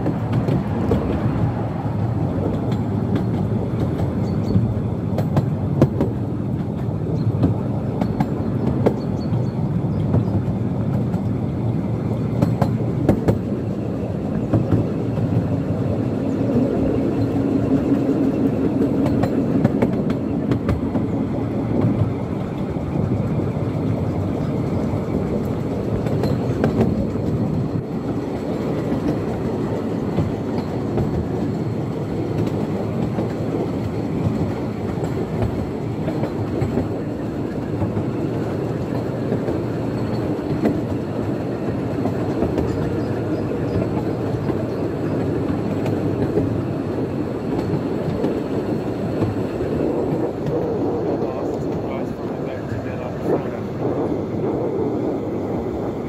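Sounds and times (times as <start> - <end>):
railway carriages rumbling on track: 0.0 - 56.0
wheels clicking on rails: 0.0 - 56.0.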